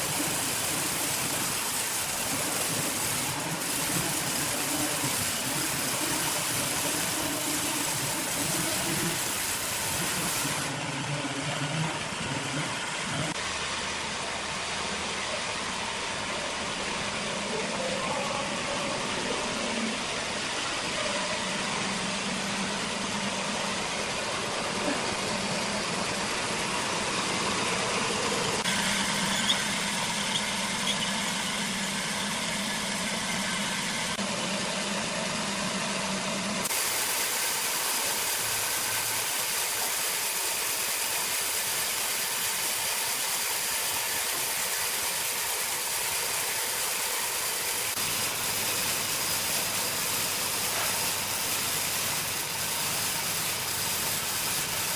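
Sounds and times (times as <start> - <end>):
sawmill machinery running: 0.0 - 54.9.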